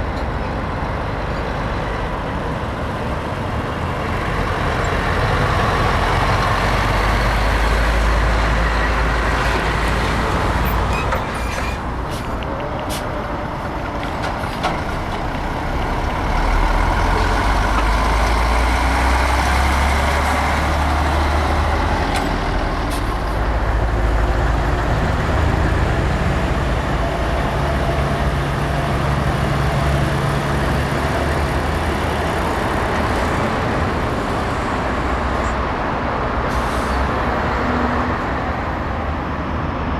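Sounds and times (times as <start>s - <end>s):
diesel truck engines rumbling: 0.0s - 39.9s.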